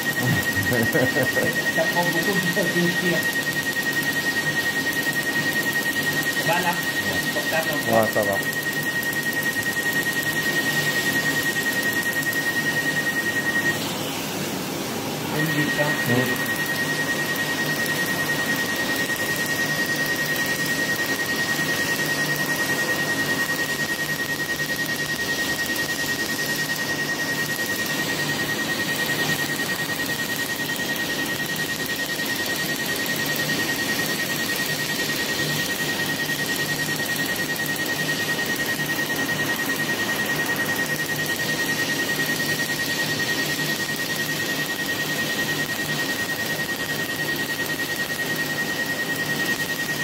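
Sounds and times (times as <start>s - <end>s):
laser pulses ticking: 0.0s - 13.7s, 15.4s - 50.0s
steady high tone: 0.0s - 50.0s
thin high whine: 0.0s - 50.0s.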